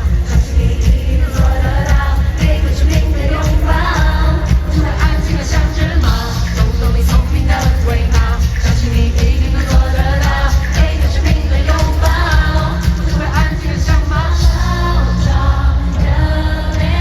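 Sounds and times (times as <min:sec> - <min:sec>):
crowd singing along: 0:00.0 - 0:17.0
live pop band: 0:00.0 - 0:17.0
woman singing lead vocal: 0:00.0 - 0:17.0.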